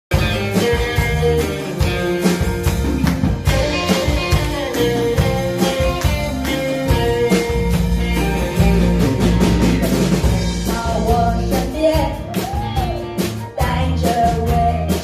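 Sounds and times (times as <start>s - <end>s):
bass guitar: 0.1s - 15.0s
drum kit beat: 0.1s - 15.0s
electric guitar: 0.1s - 15.0s.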